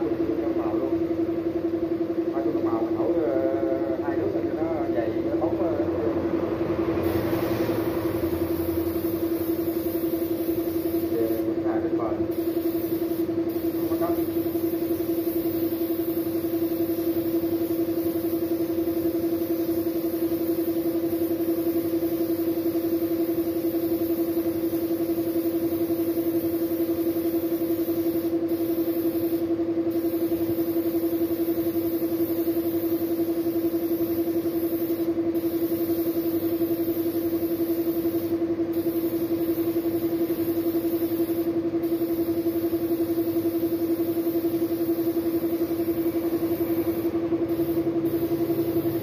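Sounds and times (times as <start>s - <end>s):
steady machine hum: 0.0s - 49.0s
spray gun hissing: 7.0s - 11.6s, 12.2s - 49.0s.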